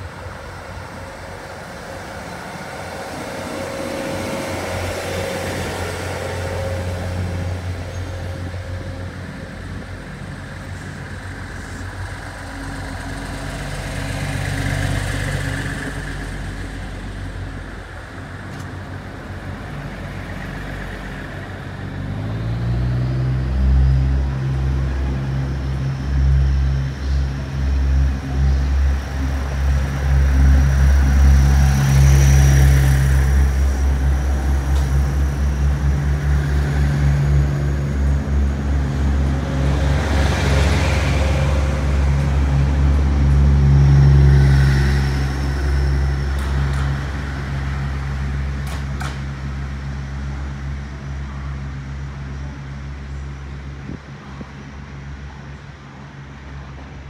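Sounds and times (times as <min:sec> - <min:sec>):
diesel train engines: 0:00.0 - 0:57.0
train cars rolling past: 0:00.0 - 0:57.0.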